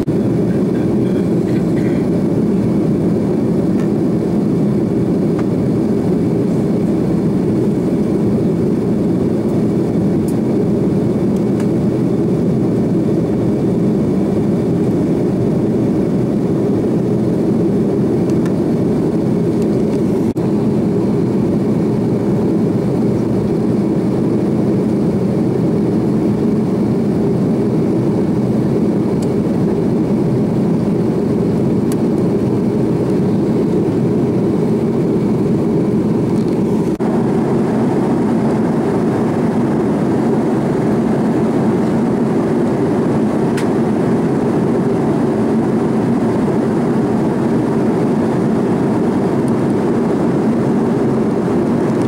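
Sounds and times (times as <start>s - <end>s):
jet engine cabin roar: 0.0s - 52.0s.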